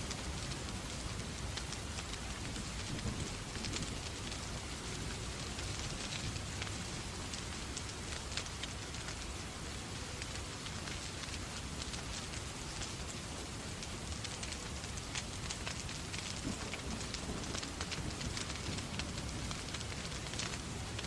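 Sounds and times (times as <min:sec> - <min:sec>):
steady rain: 0:00.0 - 0:21.0
wood fire crackling: 0:00.0 - 0:21.0.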